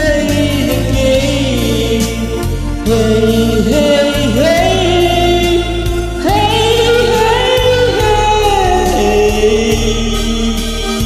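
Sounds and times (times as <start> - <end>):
karaoke backing track: 0.0 - 11.0.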